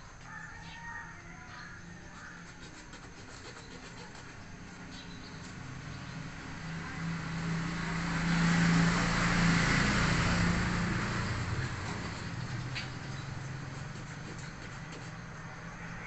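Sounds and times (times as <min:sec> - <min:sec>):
vehicle passing by: 0:01.8 - 0:16.0.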